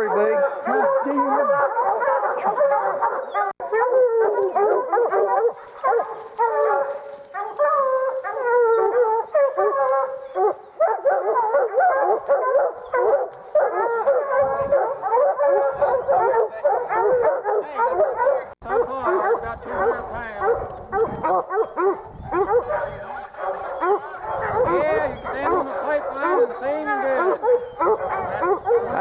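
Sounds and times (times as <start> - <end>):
hounds baying and howling: 0.0 - 29.0.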